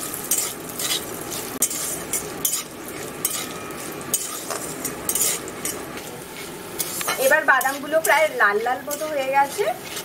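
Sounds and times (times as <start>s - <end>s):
peanuts sizzling in oil: 0.0s - 10.0s
metal spatula scraping a pan: 0.2s - 10.0s.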